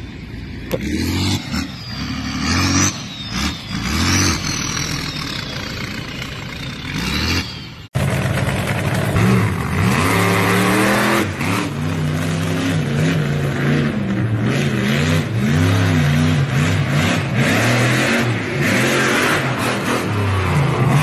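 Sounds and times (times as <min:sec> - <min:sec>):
engine revving: 0:00.6 - 0:21.0.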